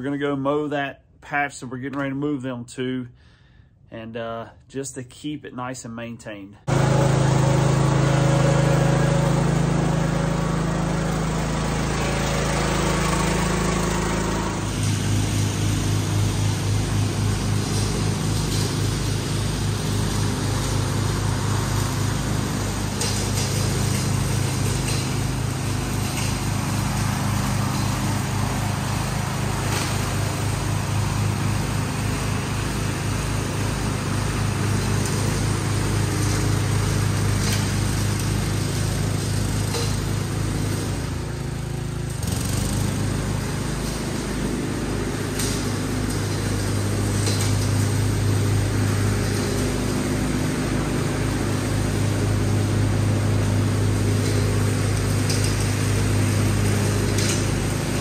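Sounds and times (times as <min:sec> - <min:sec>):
riding lawn mower engine: 0:06.6 - 0:58.0.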